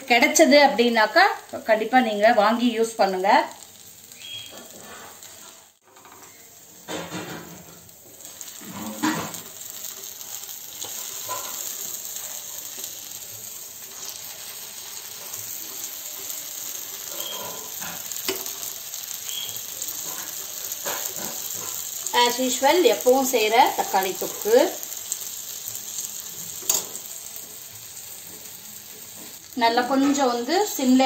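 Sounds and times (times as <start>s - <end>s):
food sizzling on a griddle: 0.0s - 31.0s.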